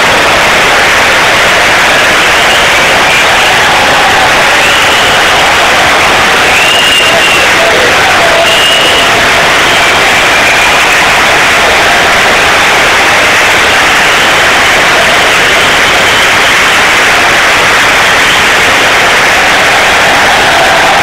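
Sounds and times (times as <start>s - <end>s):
stadium crowd cheering: 0.0s - 21.0s.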